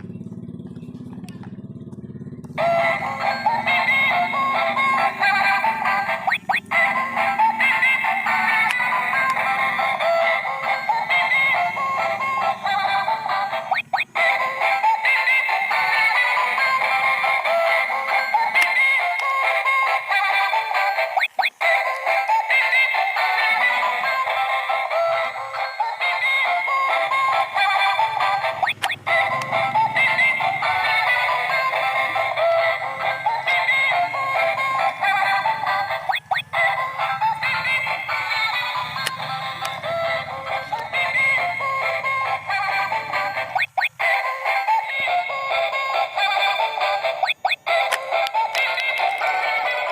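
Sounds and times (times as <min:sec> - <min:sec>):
toy playing electronic tune: 0:02.6 - 0:49.9.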